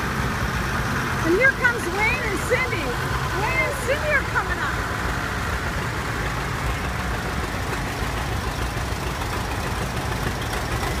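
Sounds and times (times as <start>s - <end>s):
tractor engine driving past: 0.0s - 11.0s.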